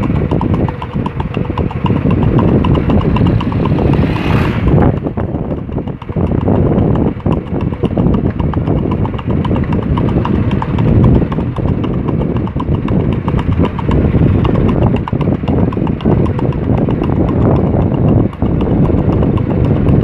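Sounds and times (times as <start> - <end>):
hooves clip-clopping on asphalt: 0.0 - 20.0
steady low rumble: 0.0 - 20.0.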